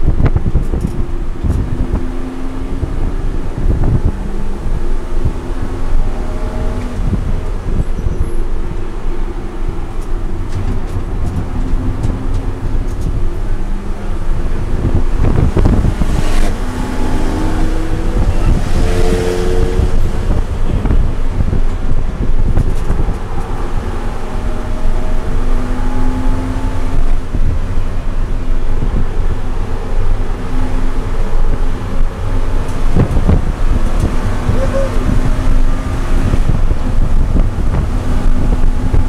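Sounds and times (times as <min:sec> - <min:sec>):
car engine revving under load: 0:00.0 - 0:39.0
wind and road noise: 0:00.0 - 0:39.0.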